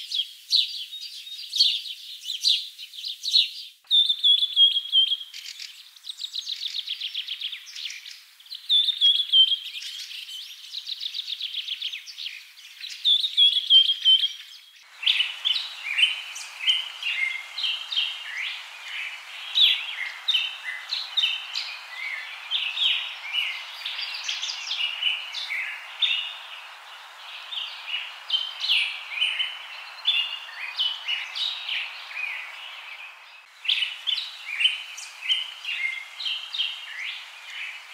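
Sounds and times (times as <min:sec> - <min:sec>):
chorus of bird chirps: 0:00.0 - 0:37.9
steady hiss: 0:03.9 - 0:37.9.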